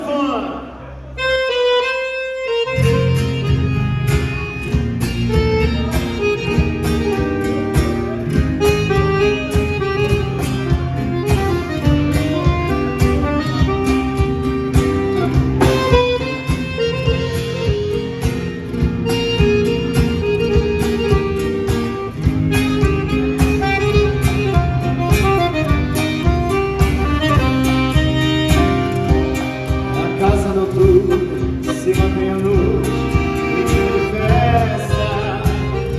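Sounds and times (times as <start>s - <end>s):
upbeat instrumental band music: 1.2s - 35.9s.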